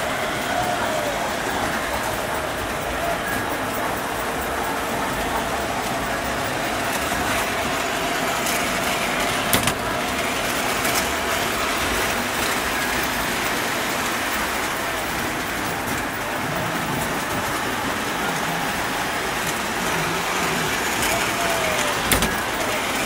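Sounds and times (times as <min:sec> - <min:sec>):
model train wheels rumbling: 0:00.0 - 0:23.0.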